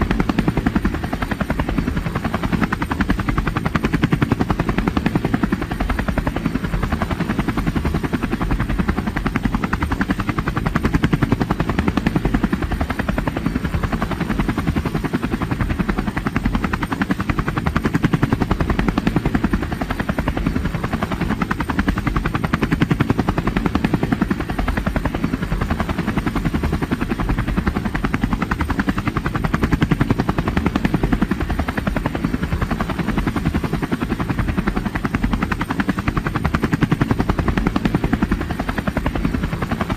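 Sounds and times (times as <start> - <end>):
helicopter engine whine: 0.0 - 39.9
helicopter rotor blades chopping: 0.0 - 39.9.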